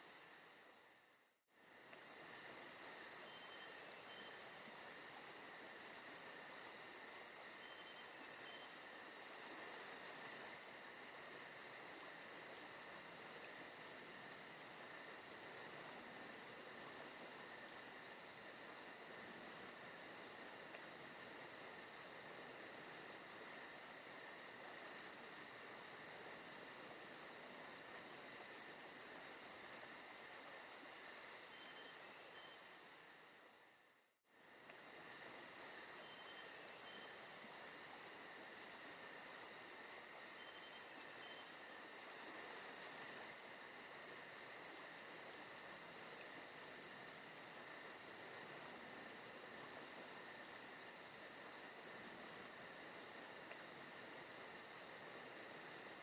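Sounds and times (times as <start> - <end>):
crickets and insects trilling: 1.6 - 33.6, 34.3 - 56.0.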